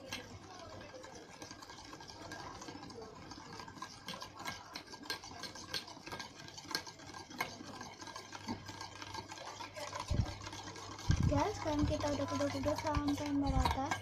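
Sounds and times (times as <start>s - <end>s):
utensil stirring slime: 0.0s - 14.0s.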